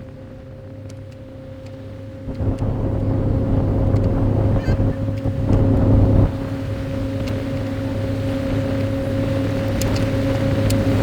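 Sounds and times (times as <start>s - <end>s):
motorboat engine drone: 0.0s - 11.0s
rush of wind and water: 0.0s - 11.0s.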